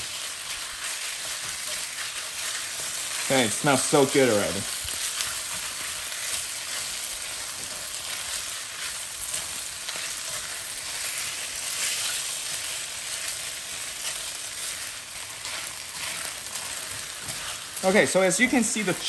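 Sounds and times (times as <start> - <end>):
spatula scraping pan: 0.0 - 18.6
chicken and onions sizzling in oil: 0.0 - 19.0.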